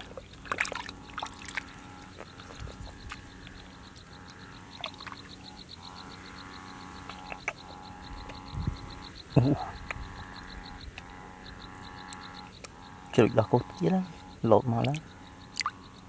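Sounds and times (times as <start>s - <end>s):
frogs calling: 0.0s - 16.0s
high-pitched pulsing: 0.0s - 16.0s.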